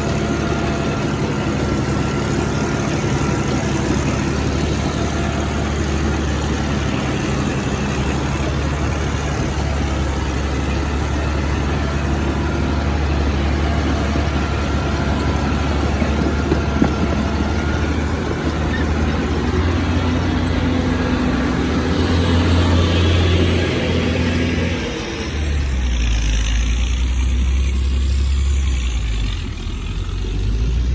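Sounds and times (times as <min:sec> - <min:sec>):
heavy diesel engines running: 0:00.0 - 0:30.9.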